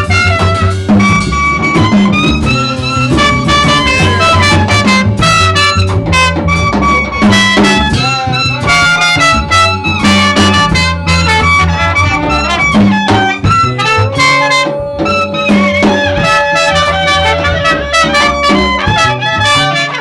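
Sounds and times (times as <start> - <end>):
drum kit: 0.0 - 20.0
upright double bass: 0.0 - 20.0
wind instrument melody: 0.0 - 20.0.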